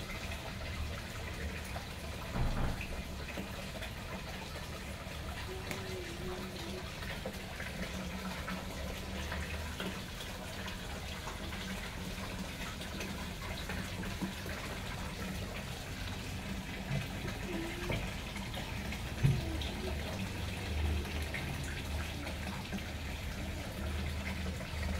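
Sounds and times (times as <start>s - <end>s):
water pouring into pond: 0.0s - 24.9s.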